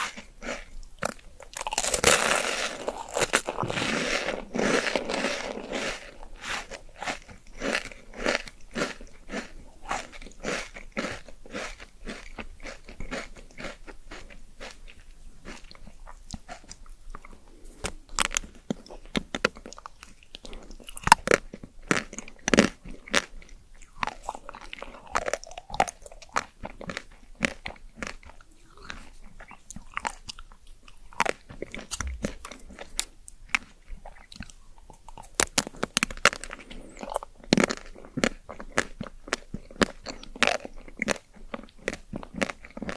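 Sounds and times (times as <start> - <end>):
close chewing with crunches: 0.0 - 42.9.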